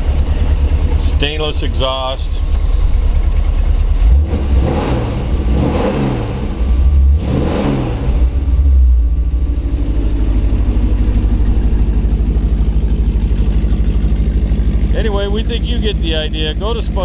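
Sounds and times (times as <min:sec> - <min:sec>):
engine revving and idling: 0:00.0 - 0:17.0.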